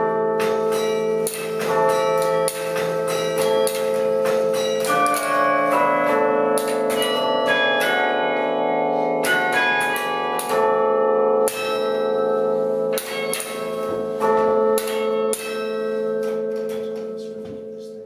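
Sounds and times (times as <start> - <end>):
bells ringing: 0.0 - 18.0.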